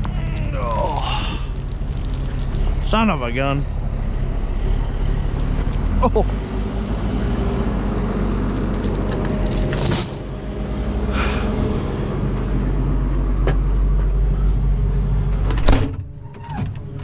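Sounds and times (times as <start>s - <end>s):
vehicle engine under load: 0.0s - 17.0s.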